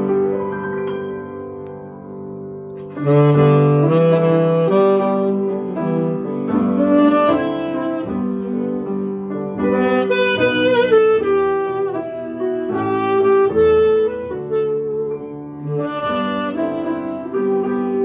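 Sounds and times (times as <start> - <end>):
grand piano accompaniment: 0.0 - 18.0
saxophone slow melody: 1.4 - 18.0.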